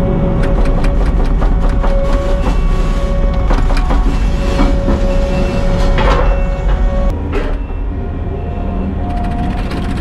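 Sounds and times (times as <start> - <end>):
earthmoving machine engine whine: 0.0 - 10.0.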